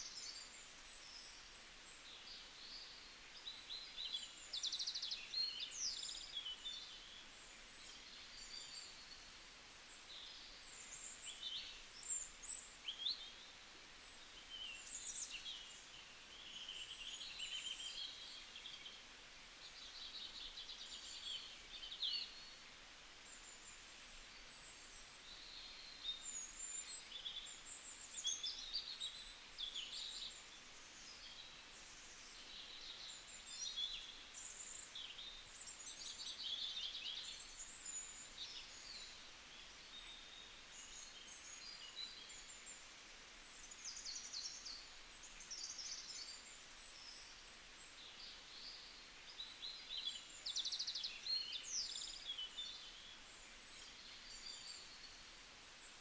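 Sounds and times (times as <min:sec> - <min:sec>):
forest ambience hiss: 0:00.0 - 0:56.0
songbirds chirping and trilling: 0:00.0 - 0:56.0.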